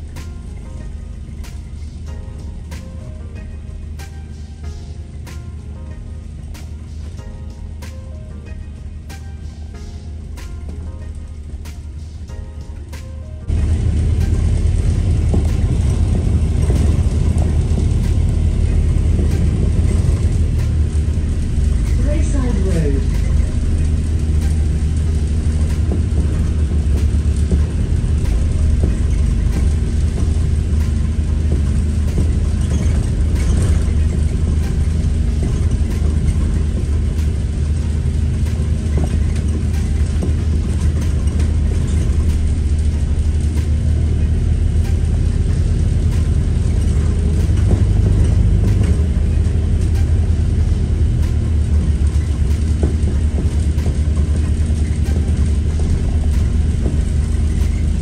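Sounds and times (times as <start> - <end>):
bus engine rumble: 0.0 - 58.0
road noise: 0.0 - 58.0.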